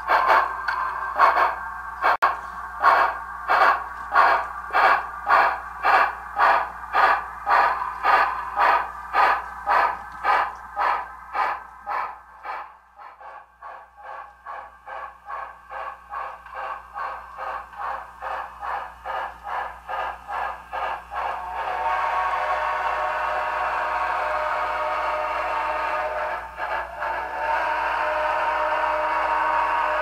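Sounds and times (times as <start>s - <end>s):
model train steam chuffs: 0.0s - 30.0s.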